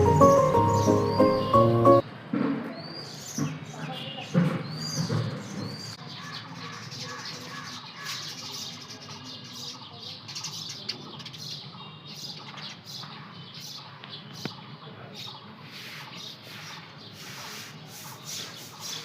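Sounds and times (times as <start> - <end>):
small birds chirping: 0.0 - 2.0, 2.8 - 19.0.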